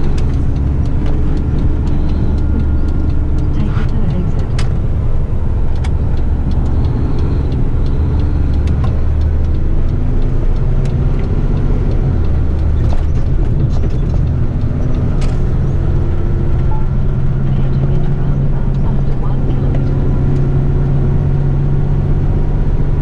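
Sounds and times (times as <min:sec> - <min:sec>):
cab clicks and rattles: 0:00.0 - 0:20.4
truck diesel engine drone: 0:00.0 - 0:23.0.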